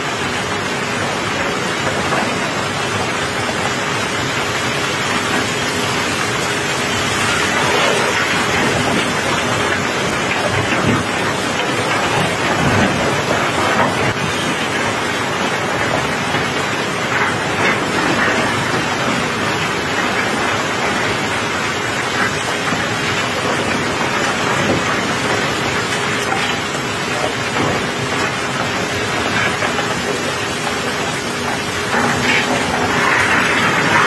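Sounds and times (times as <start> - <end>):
rain falling on metal deck: 0.0 - 34.0.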